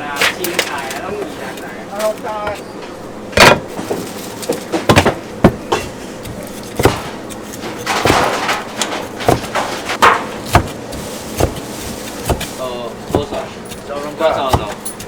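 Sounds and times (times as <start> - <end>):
utensils and cookware clattering: 0.0 - 15.0.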